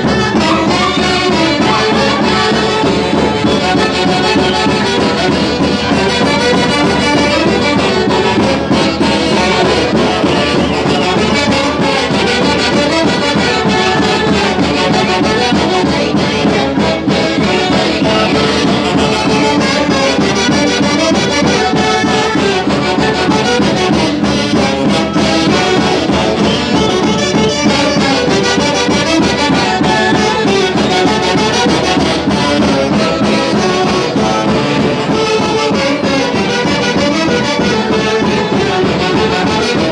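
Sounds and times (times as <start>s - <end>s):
folk orchestra with wind and brass: 0.0s - 39.9s.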